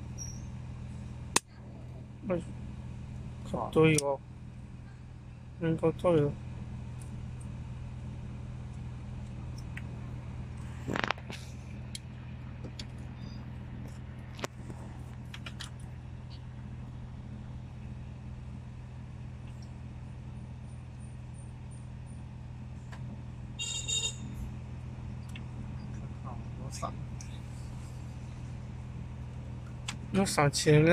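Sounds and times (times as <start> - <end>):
low hum in car cabin: 0.0 - 30.9.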